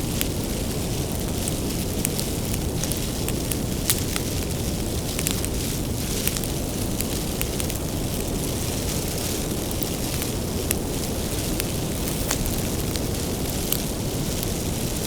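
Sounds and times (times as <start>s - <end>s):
fire popping and snapping: 0.0s - 15.0s
low rumble of flames: 0.0s - 15.0s.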